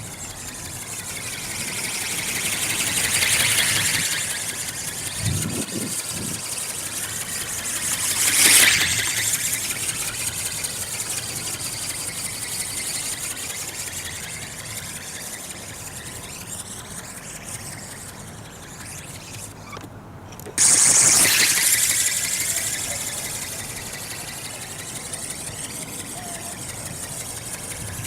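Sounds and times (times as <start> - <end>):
model aircraft motor whining: 0.0 - 28.0.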